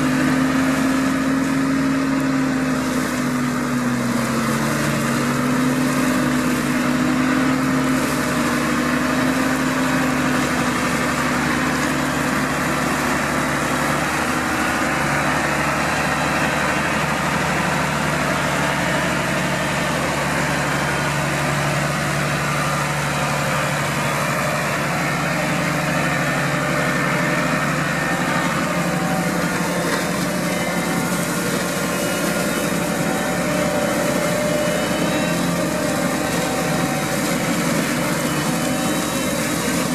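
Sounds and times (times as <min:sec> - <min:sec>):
tractor engine with hedge cutter: 0:00.0 - 0:39.9.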